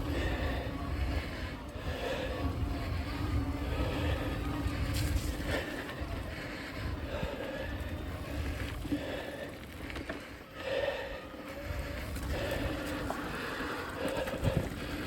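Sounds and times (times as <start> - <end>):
wind rumble on microphone: 0.0 - 10.2, 11.5 - 15.0
bike tyres and frame rattling: 0.0 - 15.0.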